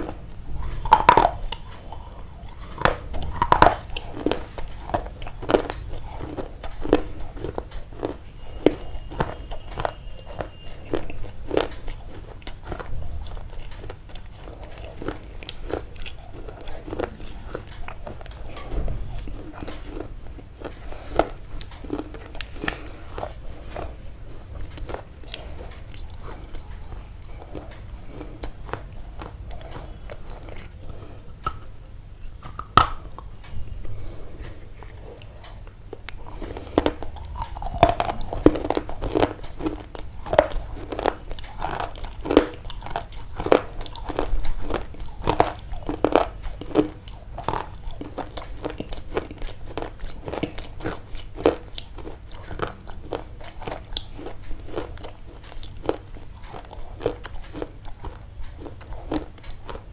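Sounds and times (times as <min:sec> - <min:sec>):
sharp crunches and clicks: 0:00.0 - 0:33.8, 0:34.6 - 0:59.9
low steady rumble: 0:00.0 - 0:59.9.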